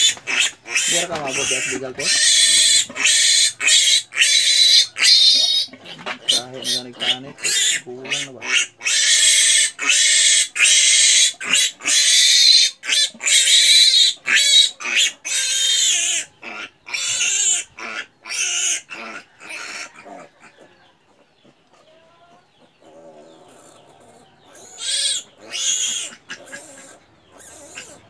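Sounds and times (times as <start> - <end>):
piglet squealing: 0.0 - 20.3, 22.9 - 28.0.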